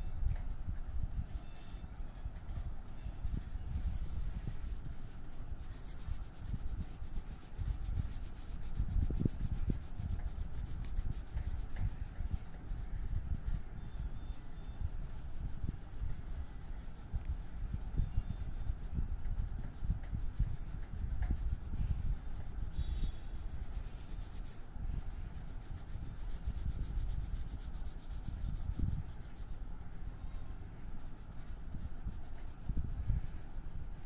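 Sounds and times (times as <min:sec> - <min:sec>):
drawing tool rubbing on paper: 0:03.7 - 0:13.8, 0:14.7 - 0:30.3, 0:31.0 - 0:34.0.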